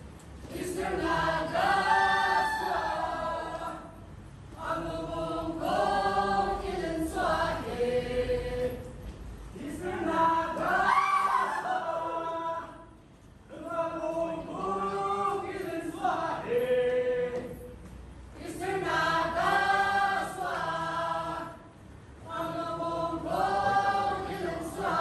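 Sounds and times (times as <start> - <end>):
group singing a chant: 0.4 - 17.8, 18.4 - 25.0.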